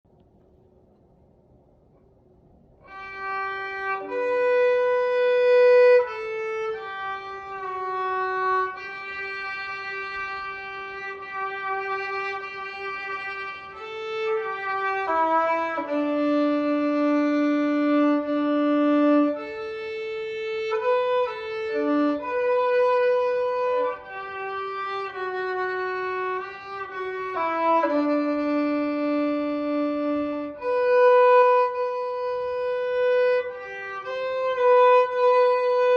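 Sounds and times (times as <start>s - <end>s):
slow bowed string melody: 2.8s - 35.9s.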